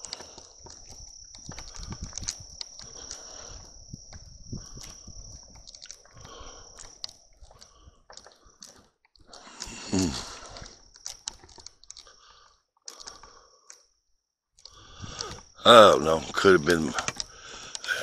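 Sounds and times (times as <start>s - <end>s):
small clicks and crunches: 0.0s - 13.9s, 14.5s - 18.0s
night insects trilling: 0.0s - 14.0s, 14.6s - 18.0s.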